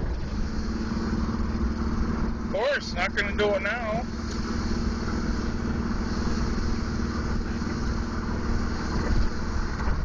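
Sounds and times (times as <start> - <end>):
car engine running: 0.0 - 10.0
road rumble: 0.0 - 10.0.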